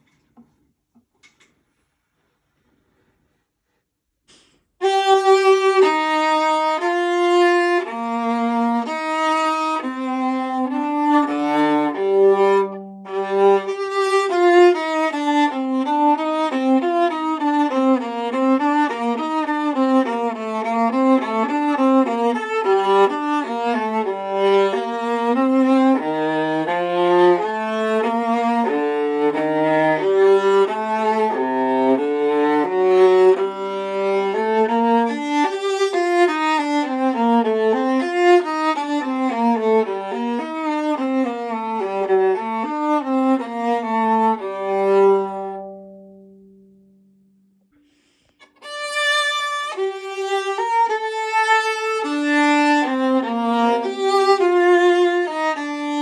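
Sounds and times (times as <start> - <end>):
bowed viola melody: 4.8 - 56.0.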